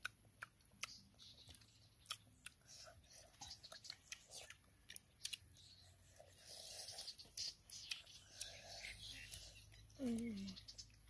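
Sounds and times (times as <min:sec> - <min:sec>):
child chewing: 0:00.0 - 0:11.0.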